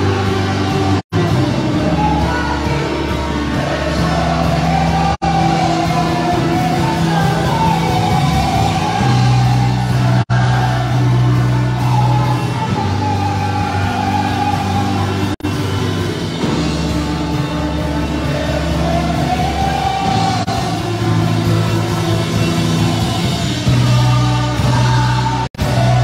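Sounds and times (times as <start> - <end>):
sustained instrumental backing: 0.0 - 26.0
vocal group singing gospel: 0.0 - 26.0.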